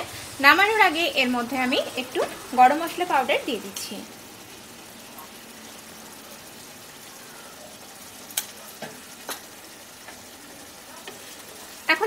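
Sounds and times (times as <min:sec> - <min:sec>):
curry simmering with sizzle: 0:00.0 - 0:12.0.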